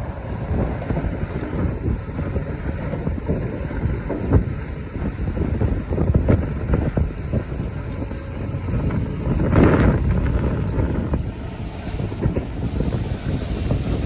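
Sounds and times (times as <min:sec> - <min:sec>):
excavator engine rumbling: 0:00.0 - 0:14.0.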